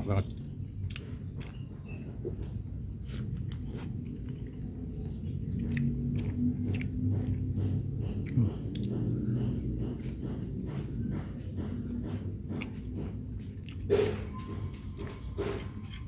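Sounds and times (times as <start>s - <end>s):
person chewing soft food: 0.0s - 16.0s.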